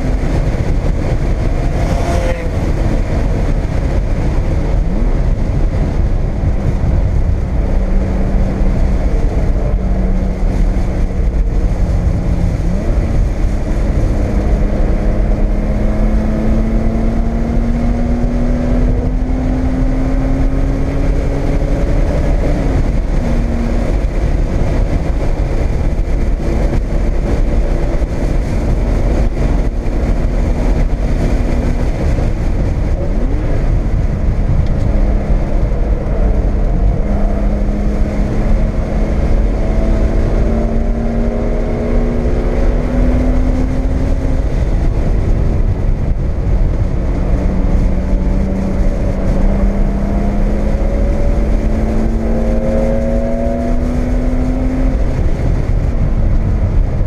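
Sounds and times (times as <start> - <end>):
car engine revving: 0.0 - 57.0
road rumble: 0.0 - 57.0
wind noise: 0.0 - 57.0.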